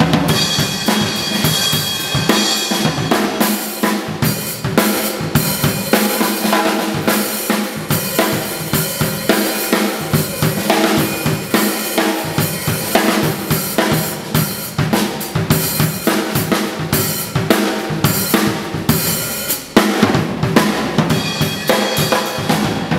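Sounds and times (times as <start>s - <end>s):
drum kit groove: 0.0s - 22.9s
loud cymbal crash: 0.1s - 22.9s.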